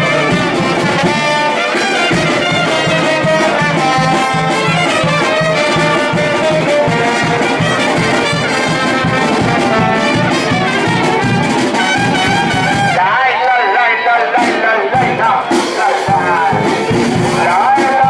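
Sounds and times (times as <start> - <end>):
brass band playing: 0.0 - 18.0
sousaphone bass line: 0.0 - 18.0.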